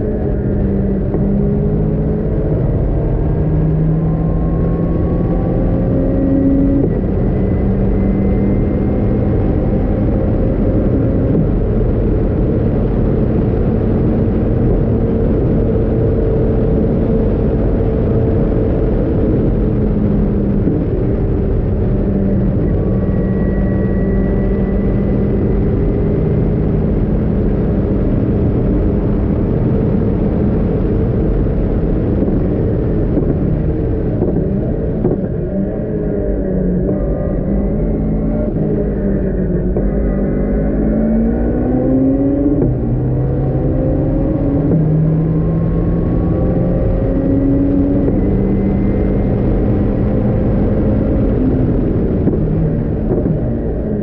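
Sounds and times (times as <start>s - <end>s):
car engine under load: 0.0s - 54.0s
heavy wind rush: 0.0s - 54.0s.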